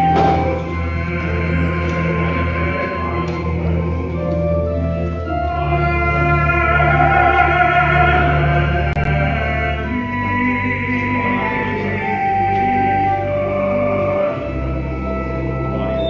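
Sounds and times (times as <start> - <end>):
church organ playing chords: 0.0 - 16.0.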